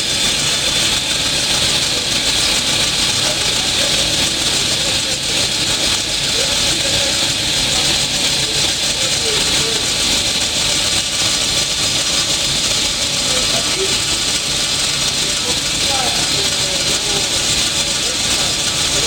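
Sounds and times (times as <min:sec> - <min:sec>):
table saw running: 0:00.0 - 0:19.0.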